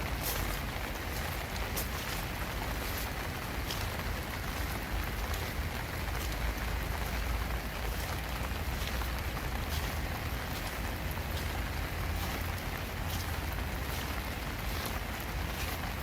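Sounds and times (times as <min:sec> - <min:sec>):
distinct raindrops: 0:00.0 - 0:16.0
steady rain hiss: 0:00.0 - 0:16.0.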